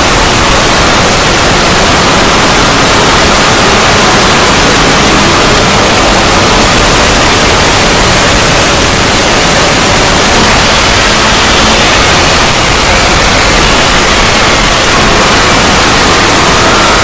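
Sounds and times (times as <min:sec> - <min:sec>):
distorted static noise: 0:00.0 - 0:17.0.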